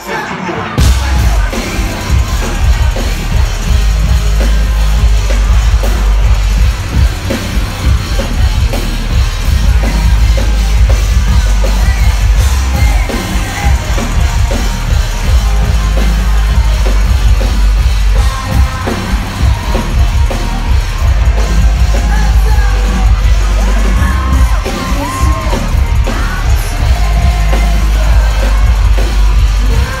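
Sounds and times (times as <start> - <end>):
live rock band playing: 0.0 - 30.0
yelled vocals: 0.0 - 30.0.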